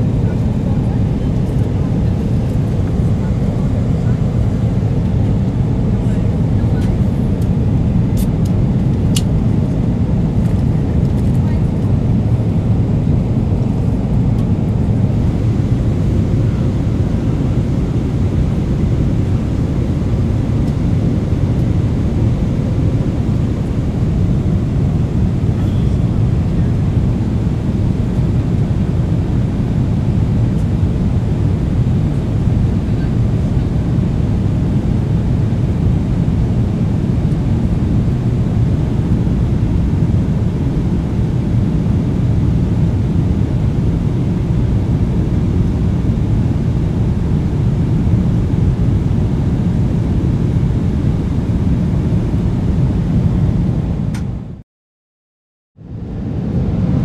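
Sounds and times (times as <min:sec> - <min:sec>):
aircraft cabin engine rumble: 0:00.0 - 0:54.6, 0:55.8 - 0:57.0.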